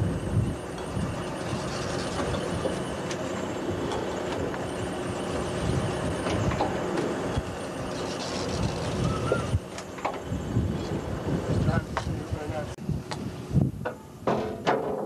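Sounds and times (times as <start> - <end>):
net hauler and boat engine: 0.0 - 13.5.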